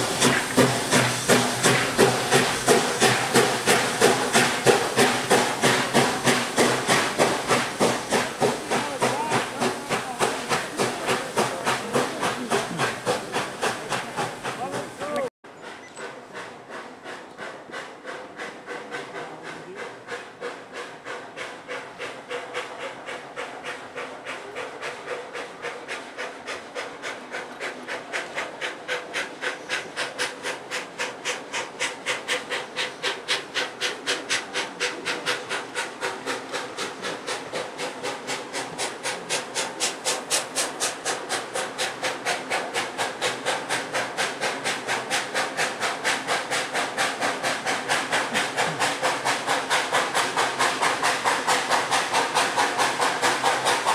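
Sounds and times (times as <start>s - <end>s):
steam locomotive exhaust chuffs: 0.0s - 53.9s.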